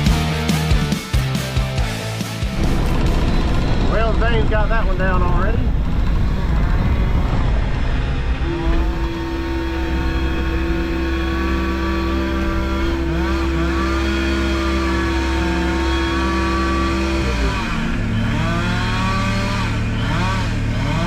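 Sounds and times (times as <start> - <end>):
machine engine rumbling with whine: 1.2 - 21.0.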